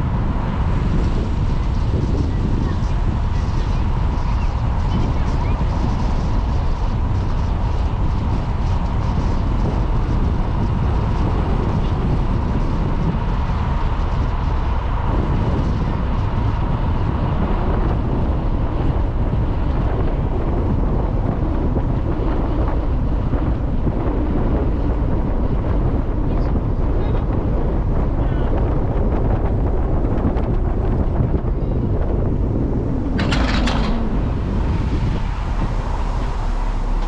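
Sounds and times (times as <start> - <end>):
car tyre and engine rumble: 0.0 - 37.0.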